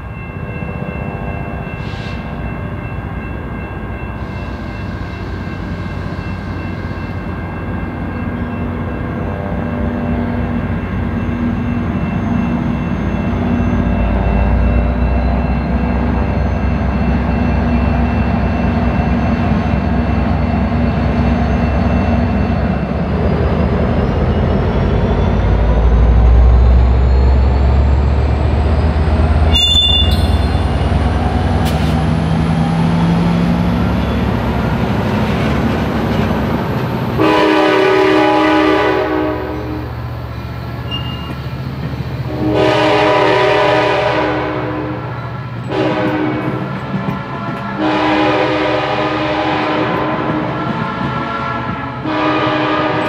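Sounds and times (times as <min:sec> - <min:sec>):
diesel train passing: 0:00.0 - 0:53.0.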